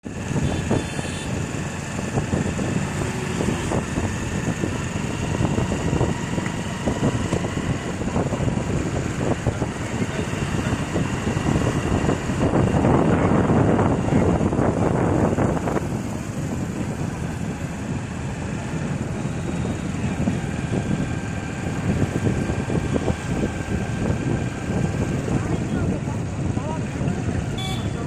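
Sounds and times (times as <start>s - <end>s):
road noise: 0.0s - 28.0s
vehicle engines running: 0.0s - 28.0s.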